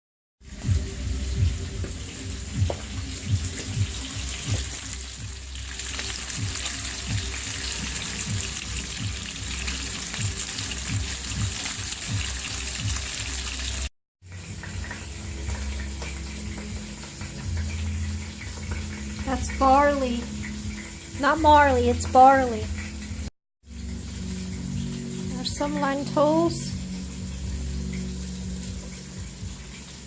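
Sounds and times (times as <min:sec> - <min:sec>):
background music with low beat: 0:00.4 - 0:30.0.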